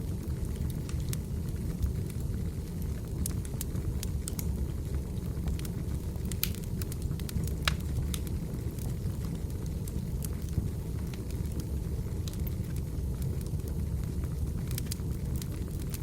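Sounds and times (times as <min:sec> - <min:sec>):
low fire rumble: 0:00.0 - 0:16.0
firewood crackling: 0:00.1 - 0:16.0.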